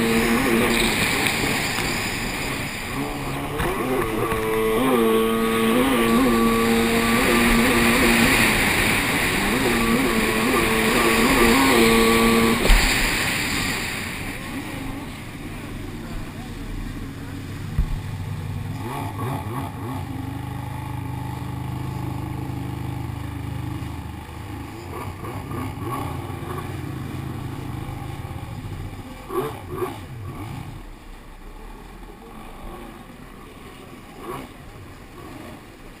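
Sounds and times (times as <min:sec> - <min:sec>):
jet ski engine running: 0:00.0 - 0:36.0
water splashing against hull: 0:00.0 - 0:36.0.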